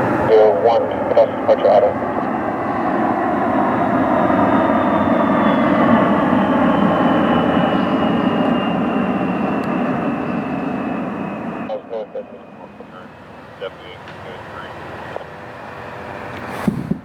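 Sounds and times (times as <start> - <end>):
aircraft engines passing overhead: 0.0 - 17.0.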